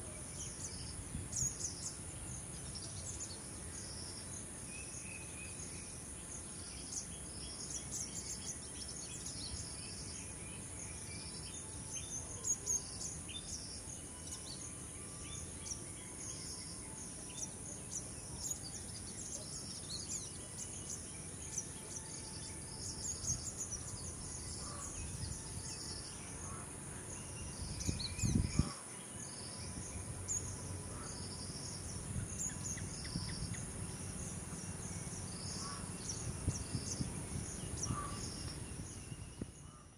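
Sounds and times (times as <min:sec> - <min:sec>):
bird chirps: 0:00.0 - 0:39.9
insect chorus drone: 0:00.0 - 0:39.9
pulsing insect call: 0:00.0 - 0:39.9.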